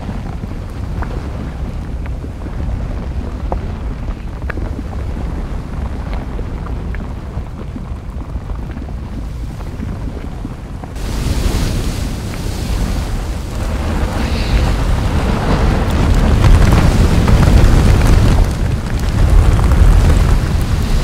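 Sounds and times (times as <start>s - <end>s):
faint crackles and pops: 0.0s - 21.0s
lava rushing and spattering: 0.0s - 21.0s
low volcanic rumble: 0.0s - 21.0s.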